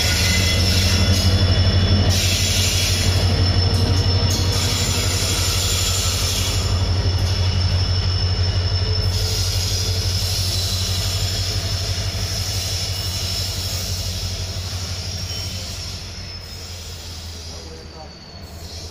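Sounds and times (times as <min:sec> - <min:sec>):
locomotive engine rumble: 0:00.0 - 0:18.9
wheel squeal: 0:00.0 - 0:18.9.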